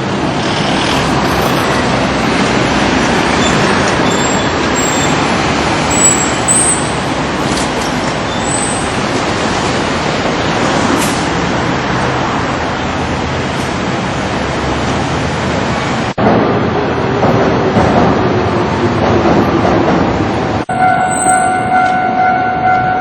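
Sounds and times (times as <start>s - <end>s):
passing vehicles rushing: 0.0s - 23.0s.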